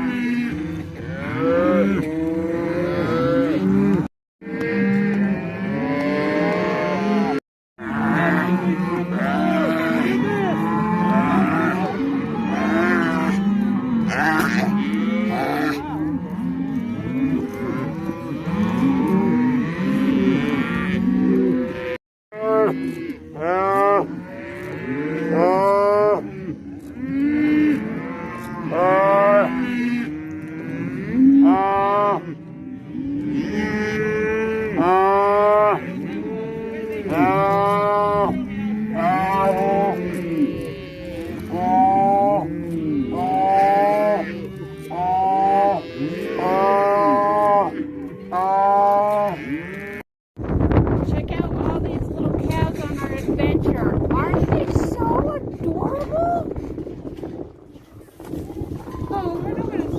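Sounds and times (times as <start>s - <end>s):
cattle mooing: 0.0s - 50.0s.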